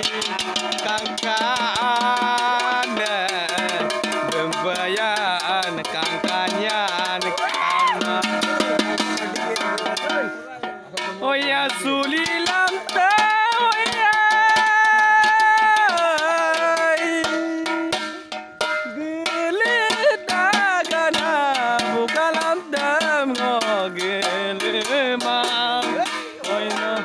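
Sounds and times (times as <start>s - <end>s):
man singing long notes: 0.0s - 9.6s, 11.2s - 27.0s
steel plates clattering percussion: 0.0s - 27.0s.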